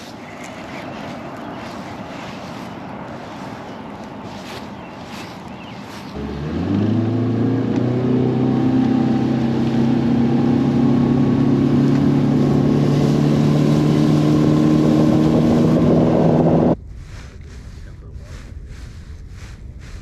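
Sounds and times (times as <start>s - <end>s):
outboard boat motor running: 0.0s - 16.8s.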